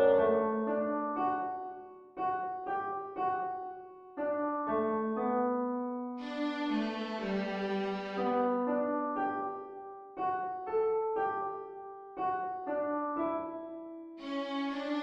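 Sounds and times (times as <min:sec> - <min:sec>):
solo piano chords: 0:00.0 - 0:14.2.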